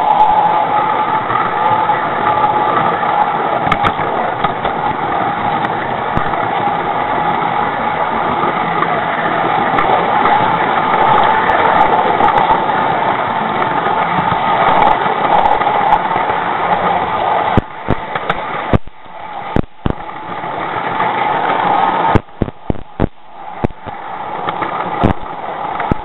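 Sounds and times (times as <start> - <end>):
model train motor running: 0.0 - 26.0
wheels clicking over rail joints: 0.0 - 26.0.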